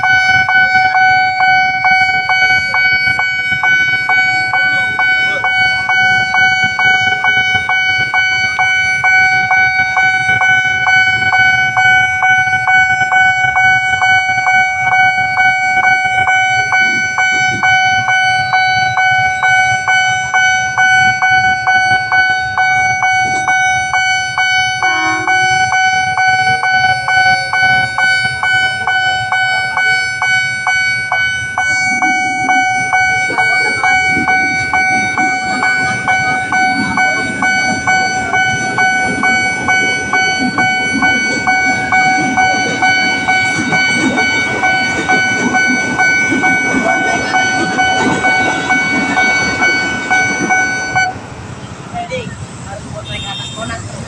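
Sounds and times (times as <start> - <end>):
level crossing alarm pulsing: 0.0 - 54.0
traffic rumble: 0.0 - 54.0.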